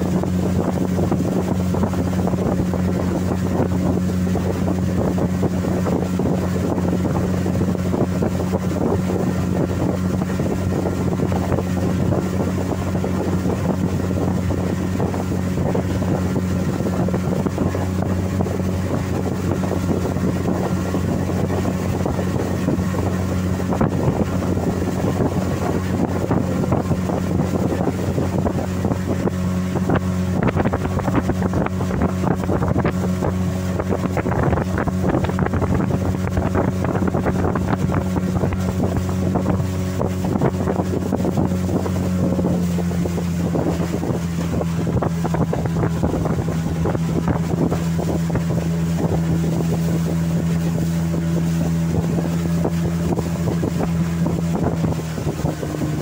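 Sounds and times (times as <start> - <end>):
boat motor droning: 0.0 - 56.0
water rushing along hull: 0.0 - 56.0
wind on microphone: 0.0 - 56.0.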